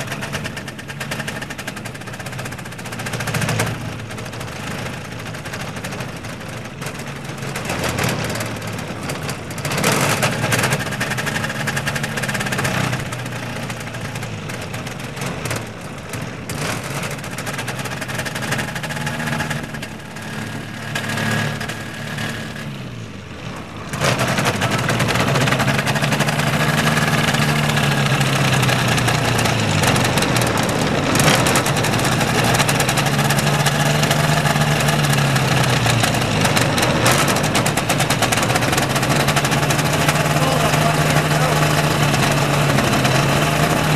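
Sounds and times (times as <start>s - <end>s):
small airplane engine running: 0.0s - 43.9s.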